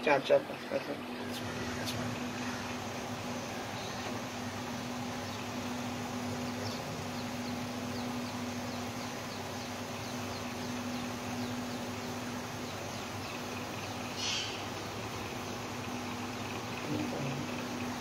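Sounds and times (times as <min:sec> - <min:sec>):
constant hum: 0:00.0 - 0:18.0.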